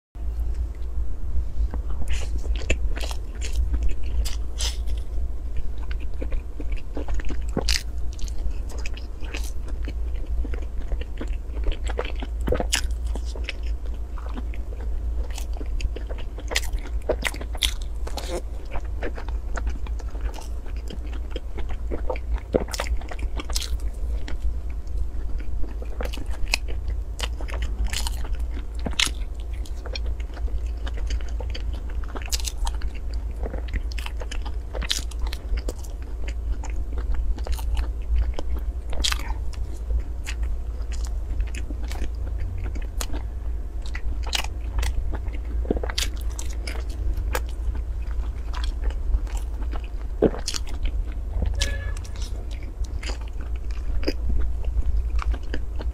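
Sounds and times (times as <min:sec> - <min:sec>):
steady low hum: 0:00.2 - 0:55.9
close-miked chewing with mouth clicks: 0:01.7 - 0:55.9.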